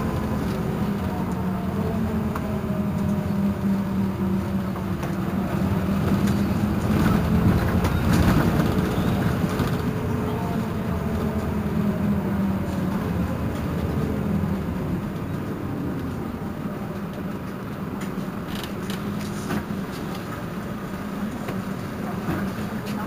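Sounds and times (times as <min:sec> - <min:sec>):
bus engine droning: 0:00.0 - 0:23.0.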